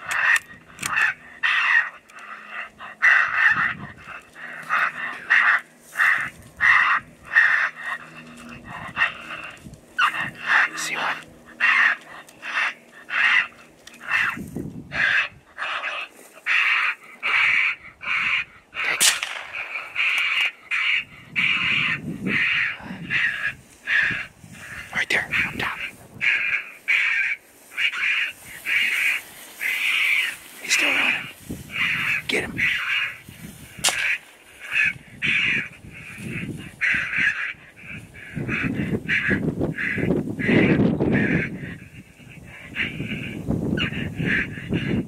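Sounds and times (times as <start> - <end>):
raccoon call harsh squalls: 0.0 - 45.0.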